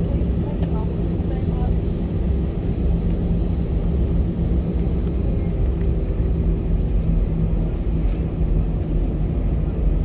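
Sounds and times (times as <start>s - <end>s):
aircraft cabin rumble and hum: 0.0s - 10.0s.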